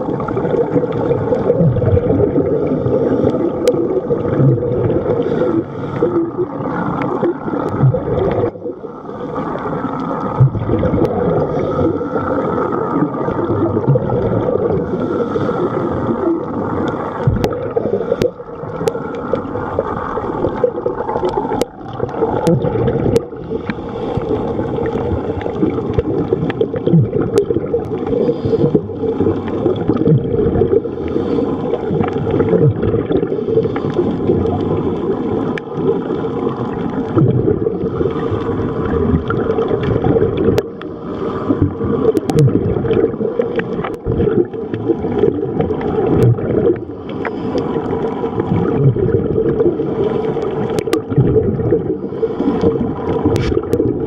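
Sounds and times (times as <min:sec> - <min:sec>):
underwater regulator bubbling: 0:00.0 - 0:54.0.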